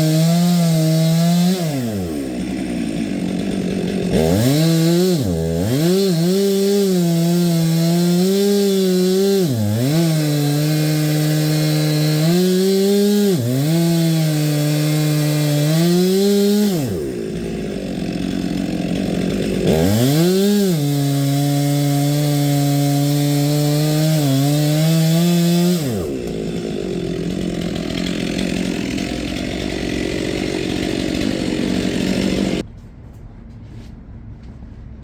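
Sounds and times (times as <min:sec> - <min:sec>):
chainsaw cutting wood: 0:00.0 - 0:32.7.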